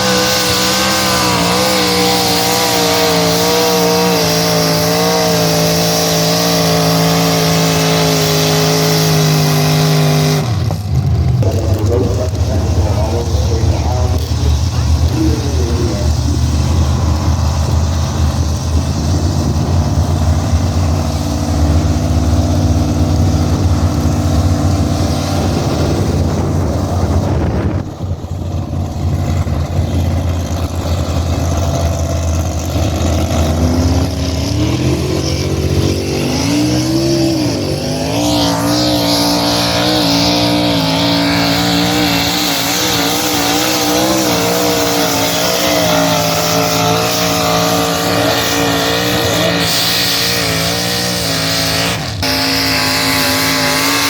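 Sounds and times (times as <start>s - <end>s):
pulling vehicle engine revving: 0.0s - 54.0s.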